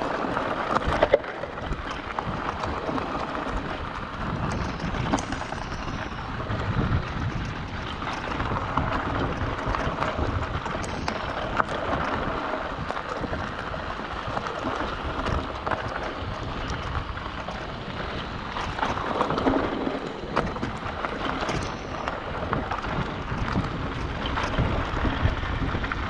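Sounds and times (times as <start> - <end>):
bike rattling over bumps: 0.0 - 26.0
bike tyres on stones and dirt: 0.0 - 26.0
wind buffeting microphone: 0.0 - 26.0.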